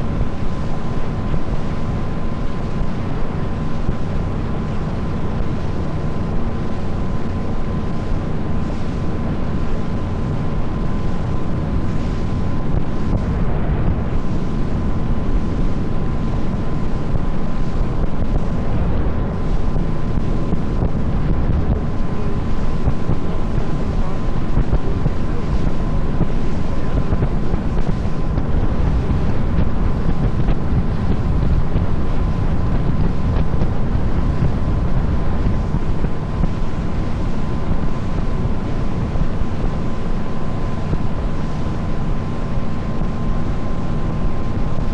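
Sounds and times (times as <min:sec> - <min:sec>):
boat engine running with whine: 0:00.0 - 0:44.9
water against hull: 0:00.0 - 0:44.9
wind rushing over microphone: 0:00.0 - 0:44.9.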